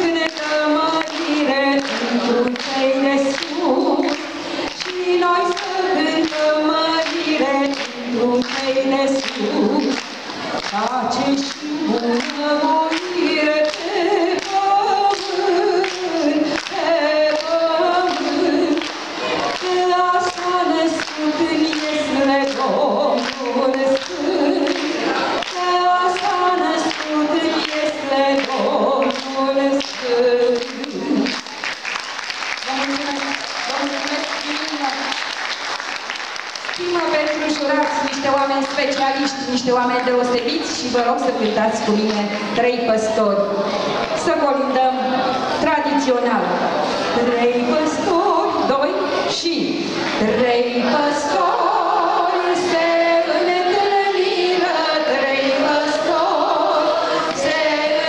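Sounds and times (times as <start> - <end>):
woman singing into a microphone: 0.0 - 31.5, 36.8 - 58.0
audience clapping along: 0.0 - 42.6, 50.0 - 58.0.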